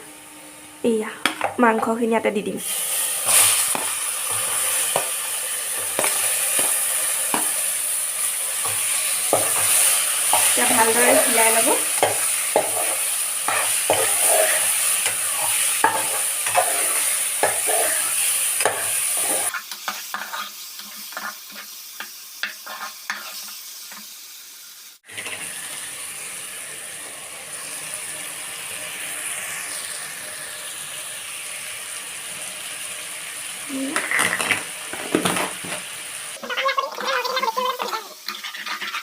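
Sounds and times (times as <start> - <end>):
chicken frying in hot oil: 0.8 - 39.0.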